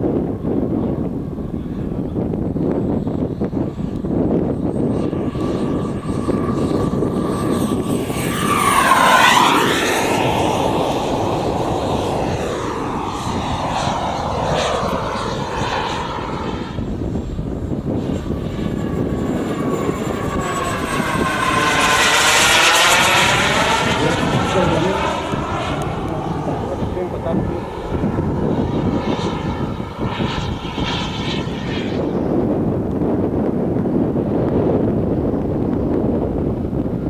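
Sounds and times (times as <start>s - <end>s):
model jet turbine whine: 0.0s - 37.0s.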